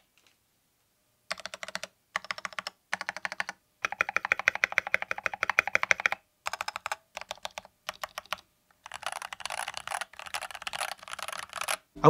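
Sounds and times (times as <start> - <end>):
mechanical keyboard typing: 1.3 - 11.8.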